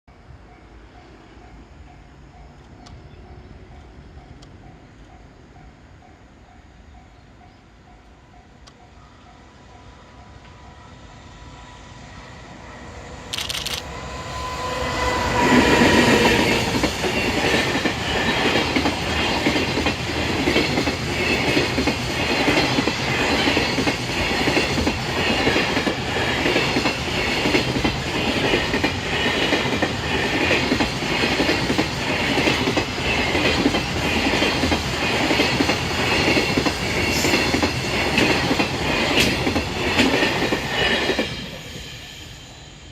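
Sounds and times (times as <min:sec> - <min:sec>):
freight train passing: 0:00.1 - 0:42.9.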